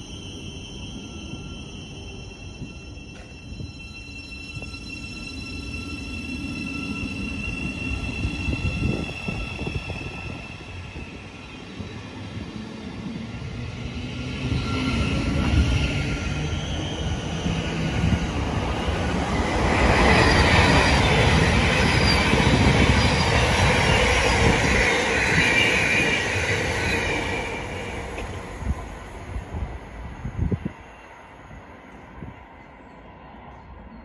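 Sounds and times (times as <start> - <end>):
train wheels rumbling on rail: 0.0 - 30.9
high-pitched train tones: 0.0 - 34.0.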